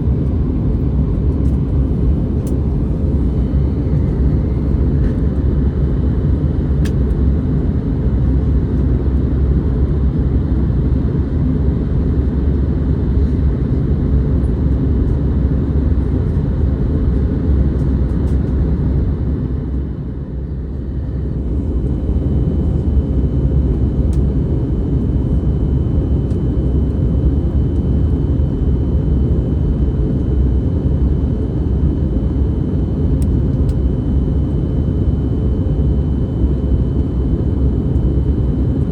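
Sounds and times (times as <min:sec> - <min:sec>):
aircraft cabin engine rumble: 0:00.0 - 0:38.9
faint constant hum: 0:00.0 - 0:38.9.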